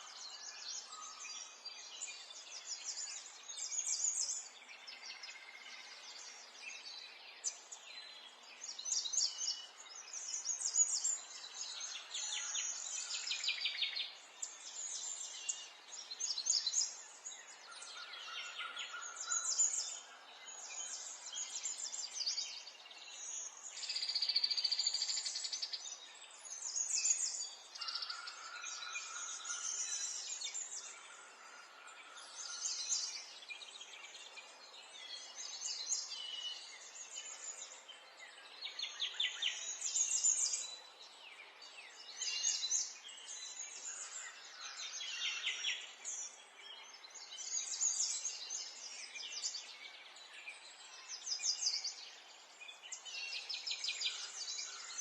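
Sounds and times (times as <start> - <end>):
faint outdoor background hiss: 0.0 - 55.0
songbirds chirping and singing: 0.0 - 55.0.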